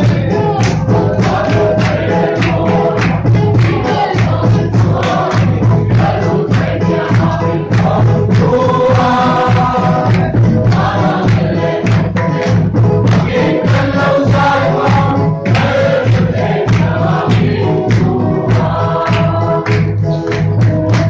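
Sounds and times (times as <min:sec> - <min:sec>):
congregation singing a hymn: 0:00.0 - 0:21.0
steady drumbeat: 0:00.0 - 0:21.0.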